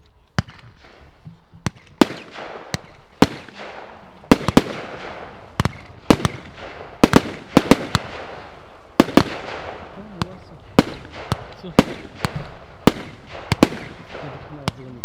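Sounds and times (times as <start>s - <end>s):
fireworks bangs with echo: 0.3s - 15.0s.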